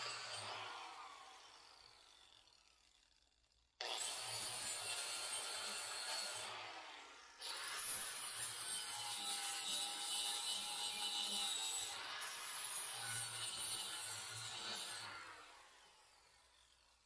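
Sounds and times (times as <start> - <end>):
angle grinder grinding steel: 0.0 - 2.6, 3.8 - 15.4.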